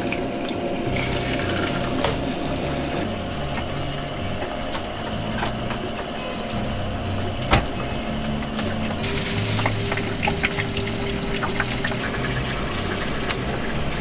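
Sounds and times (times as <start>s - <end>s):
water running from a tap: 0.0s - 14.0s.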